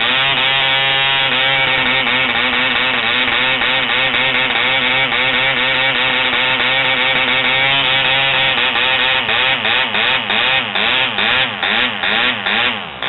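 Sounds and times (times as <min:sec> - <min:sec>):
model airplane engine surging: 0:00.0 - 0:13.0.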